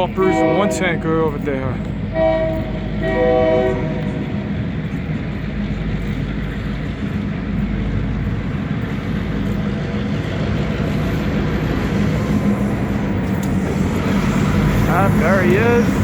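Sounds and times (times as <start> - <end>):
diesel locomotive drone: 0.0 - 16.0
rolling train wheels rumble: 0.0 - 16.0.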